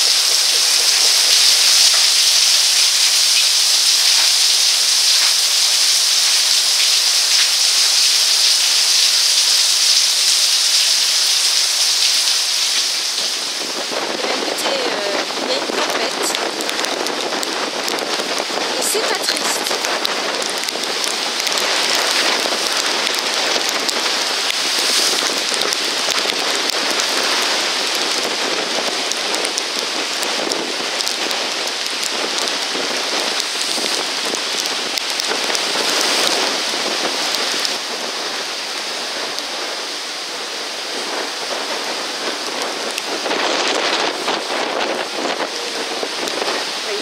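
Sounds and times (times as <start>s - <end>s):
heavy wind-driven rain: 0.0s - 47.0s
rough water: 0.0s - 47.0s
wind: 0.0s - 47.0s.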